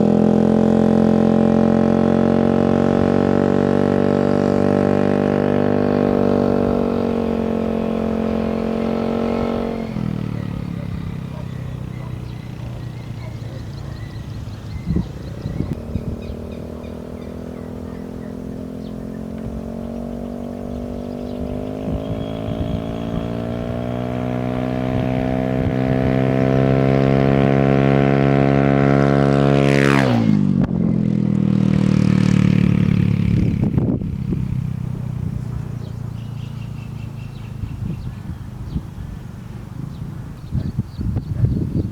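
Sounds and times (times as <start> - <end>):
scooter engine accelerating: 0.0 - 41.9.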